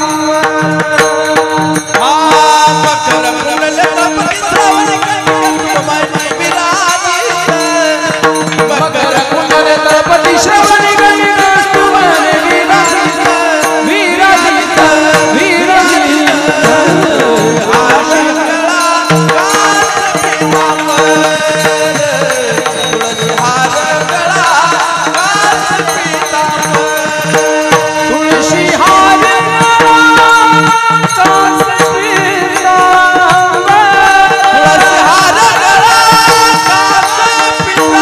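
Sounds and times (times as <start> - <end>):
hand drum: 0.0 - 38.0
man singing ornamented melody: 0.0 - 38.0
rattling percussion: 0.0 - 38.0.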